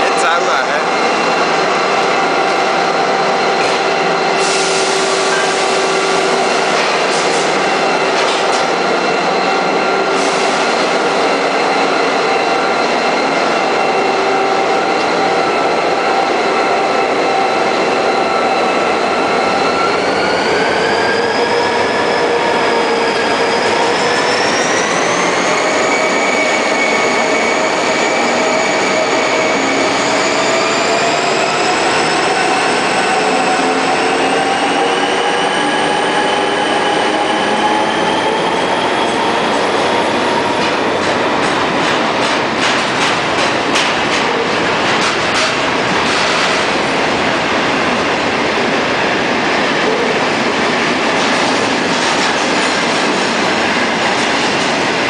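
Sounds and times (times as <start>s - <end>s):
train locomotive drone: 0.0s - 55.0s.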